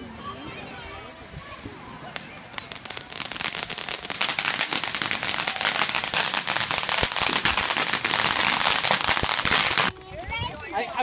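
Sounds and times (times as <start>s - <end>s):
fireworks crackling and popping: 1.2s - 11.0s.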